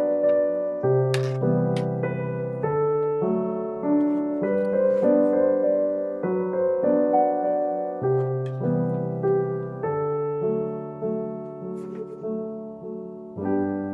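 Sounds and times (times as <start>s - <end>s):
gentle piano music: 0.0s - 13.9s.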